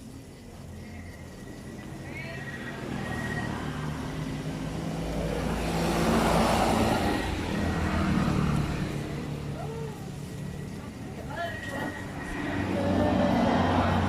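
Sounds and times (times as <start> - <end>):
vehicle passing by: 0.7 - 14.0.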